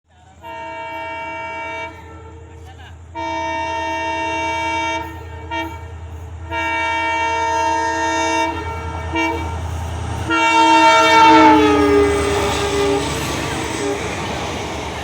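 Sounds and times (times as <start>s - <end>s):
train rumble: 0.1s - 15.0s
train horn blasts: 0.3s - 15.0s.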